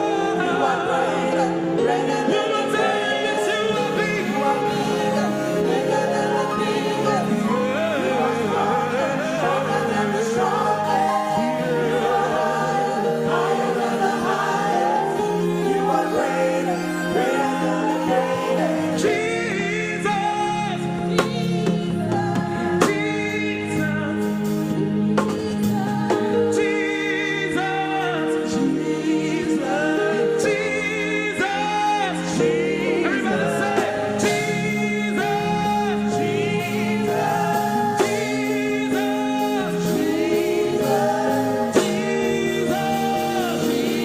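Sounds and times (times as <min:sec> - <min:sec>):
choir singing gospel: 0:00.0 - 0:44.0
instrumental backing: 0:00.0 - 0:44.0.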